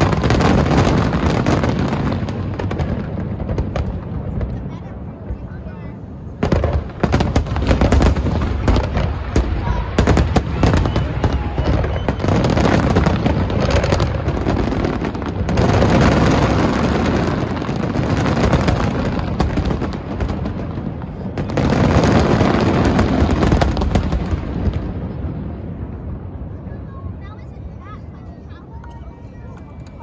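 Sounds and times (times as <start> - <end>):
fireworks bursting and crackling: 0.0 - 27.7.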